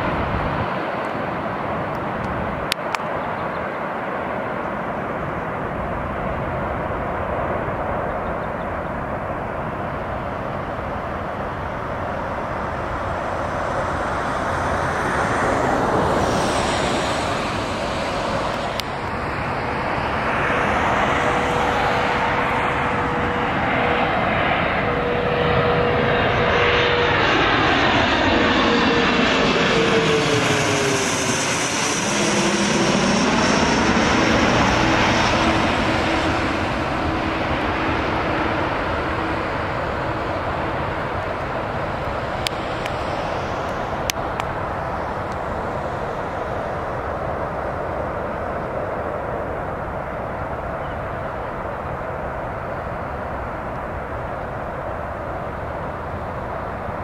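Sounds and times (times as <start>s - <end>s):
jet passing overhead: 0.0s - 57.0s.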